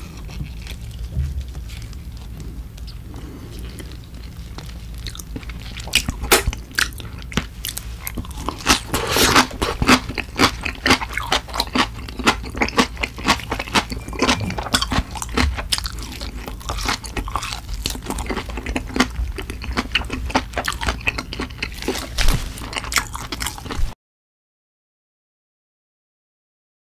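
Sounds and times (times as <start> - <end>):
close chewing and crunching: 0.0 - 24.0.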